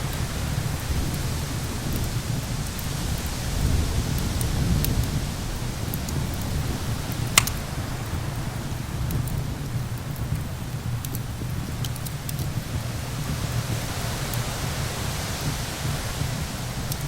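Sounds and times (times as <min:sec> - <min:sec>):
wind: 0:00.0 - 0:17.0
wood fire crackling and popping: 0:00.0 - 0:17.0.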